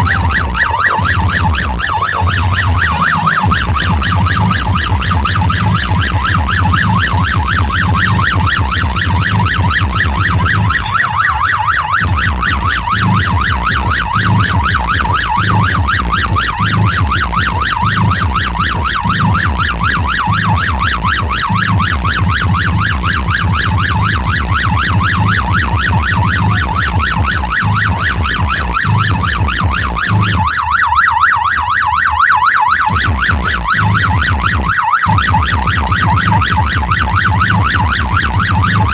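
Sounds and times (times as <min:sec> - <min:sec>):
heavy pulsing bass: 0:00.0 - 0:38.9
warbling electronic siren tone: 0:00.0 - 0:38.9.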